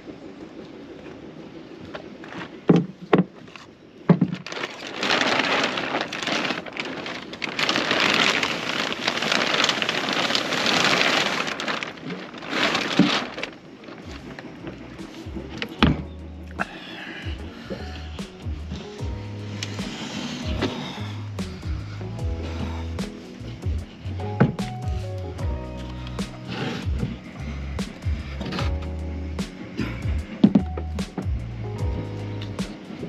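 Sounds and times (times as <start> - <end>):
crinkly sheet rustling: 0.6 - 33.0.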